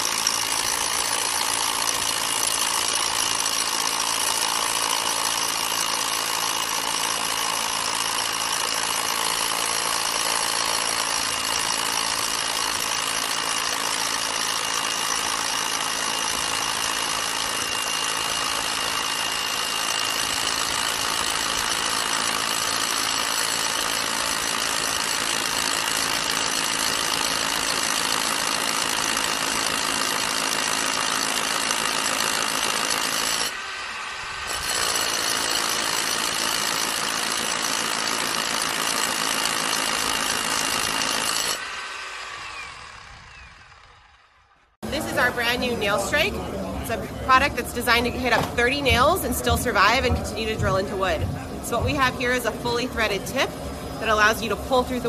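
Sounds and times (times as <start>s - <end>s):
rotary hammer drill boring into concrete: 0.0s - 46.2s.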